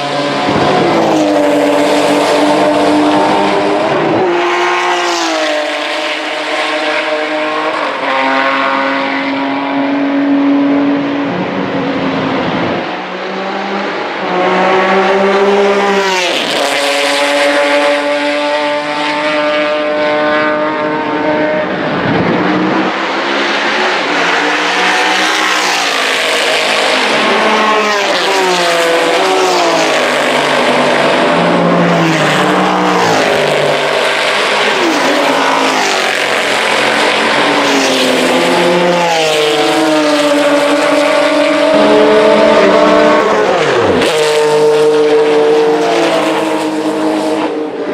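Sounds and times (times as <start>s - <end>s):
race car engines passing by: 0.0s - 47.9s.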